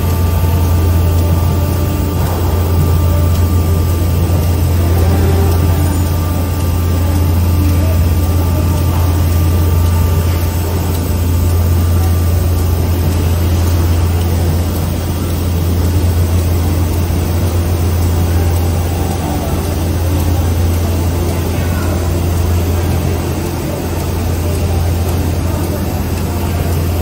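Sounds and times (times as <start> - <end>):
router machine humming: 0.0 - 27.0.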